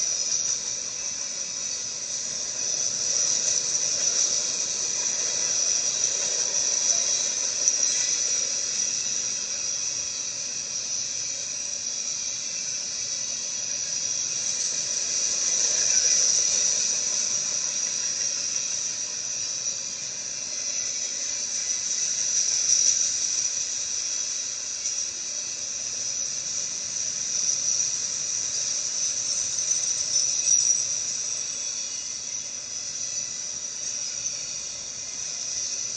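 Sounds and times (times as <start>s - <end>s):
freight train wheels hissing: 0.0s - 35.9s.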